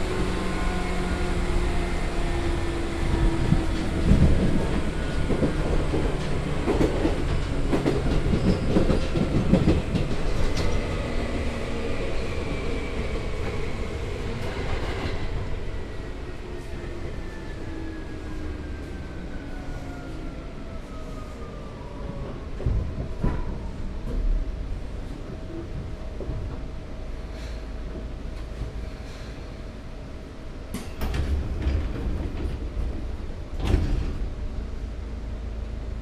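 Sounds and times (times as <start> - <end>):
train wheels rumbling: 0.0 - 29.7.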